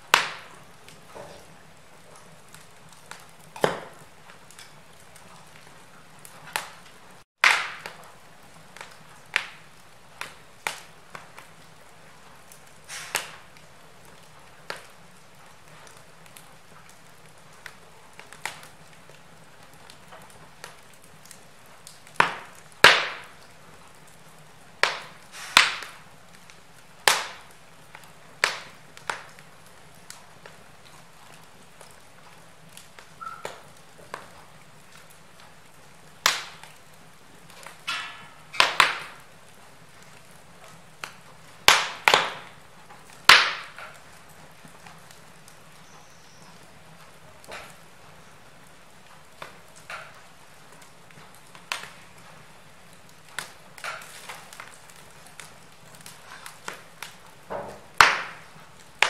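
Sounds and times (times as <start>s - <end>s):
log fire crackling: 0.0s - 59.0s
soft steady hiss: 0.0s - 59.0s.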